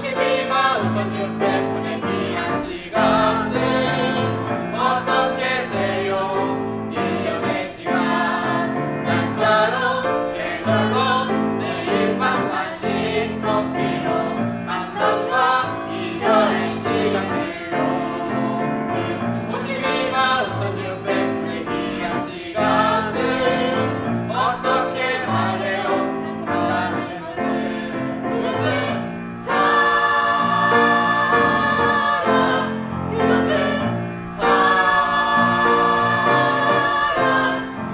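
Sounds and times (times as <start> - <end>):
choir singing: 0.0 - 37.9.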